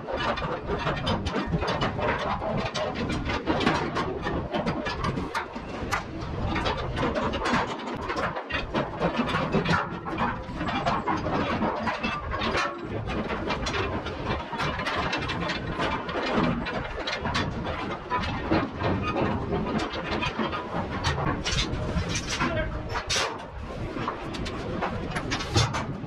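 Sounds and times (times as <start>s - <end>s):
constant noisy background: 0.0s - 26.0s.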